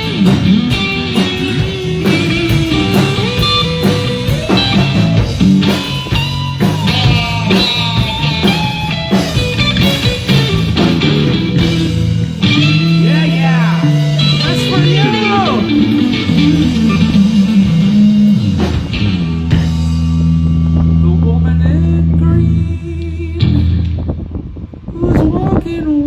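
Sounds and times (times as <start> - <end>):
live rock blues band: 0.0 - 24.2.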